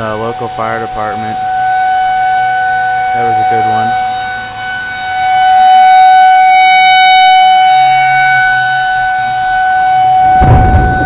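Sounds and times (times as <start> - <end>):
fire siren steady tone: 0.0 - 11.0.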